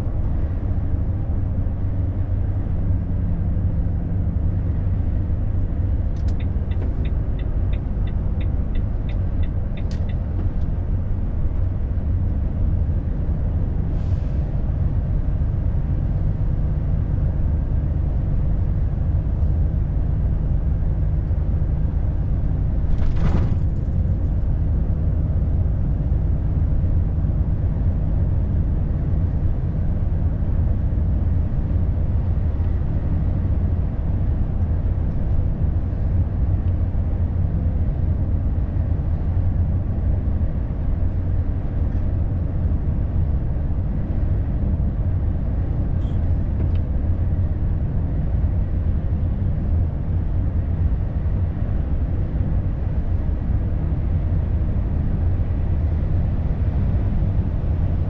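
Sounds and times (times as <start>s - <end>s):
truck engine and tyres droning: 0.0s - 58.0s.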